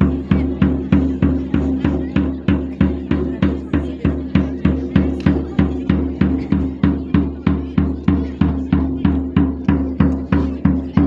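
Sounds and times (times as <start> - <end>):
marching bass and snare drums: 0.0 - 11.0.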